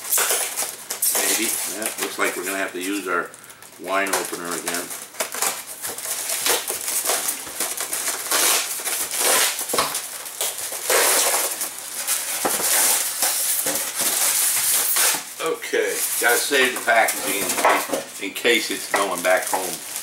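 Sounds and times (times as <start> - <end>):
packing tape being slit: 0.0 - 17.9, 18.5 - 20.0
foam and plastic scraping and crinkling: 0.0 - 20.0.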